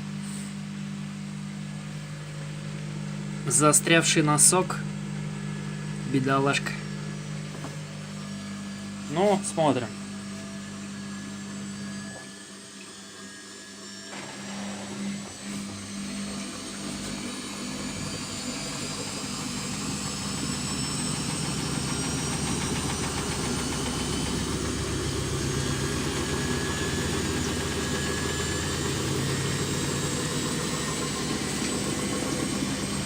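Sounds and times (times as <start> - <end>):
washing machine spinning: 0.0 - 33.0.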